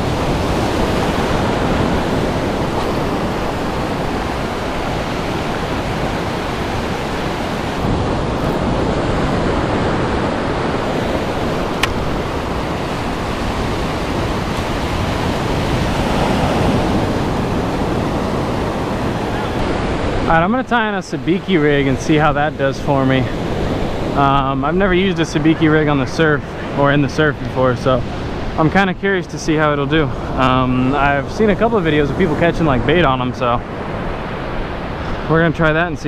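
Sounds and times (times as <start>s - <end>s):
ocean surf breaking on sand: 0.0s - 36.0s.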